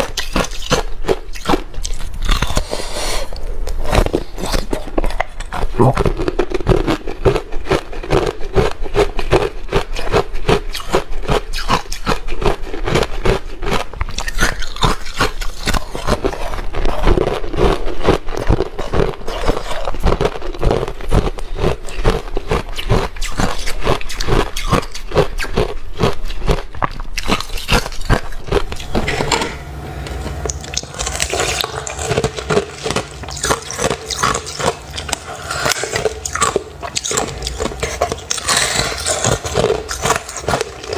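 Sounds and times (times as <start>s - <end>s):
ice being chewed: 0.0s - 29.4s, 30.2s - 40.9s.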